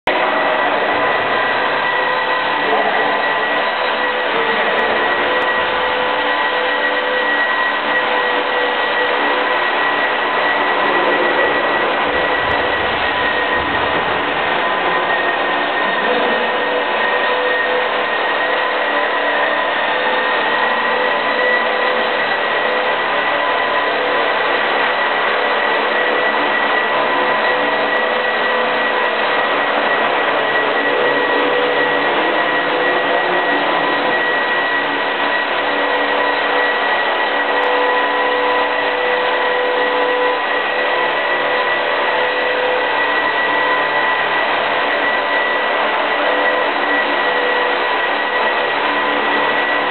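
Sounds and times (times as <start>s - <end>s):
helicopter rotors rushing: 0.1s - 49.9s
model helicopter motor whine: 0.1s - 49.9s.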